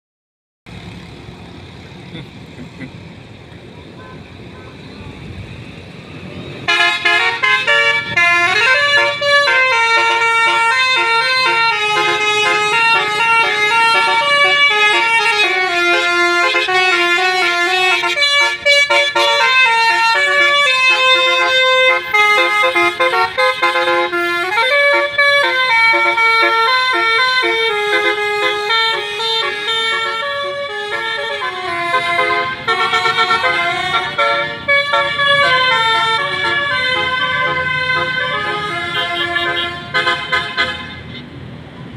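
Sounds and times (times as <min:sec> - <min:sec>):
bus horn playing a tune: 0:06.6 - 0:41.3.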